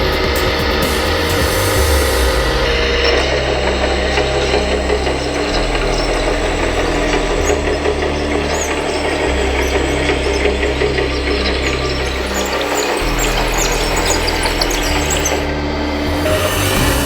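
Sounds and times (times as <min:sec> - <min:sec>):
hydraulic pump and motors whirring: 0:00.0 - 0:17.0
squeaks from excavator arm: 0:02.7 - 0:17.0.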